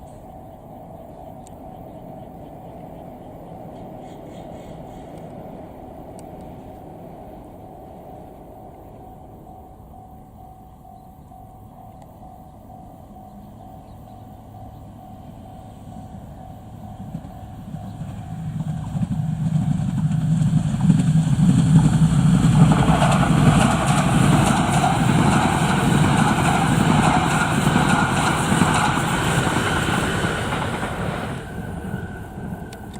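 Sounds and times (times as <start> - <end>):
high-speed train passing: 0.0 - 32.9.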